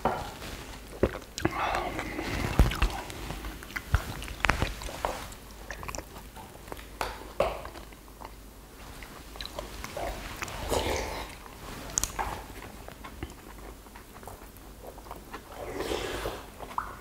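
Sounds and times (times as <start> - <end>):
people chewing and eating soup: 0.0 - 17.0.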